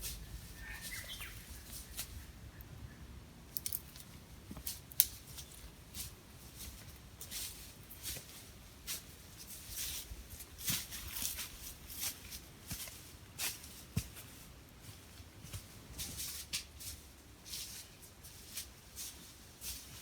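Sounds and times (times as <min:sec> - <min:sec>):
footsteps crunching through dry leaves: 0:00.0 - 0:02.2, 0:04.6 - 0:20.0.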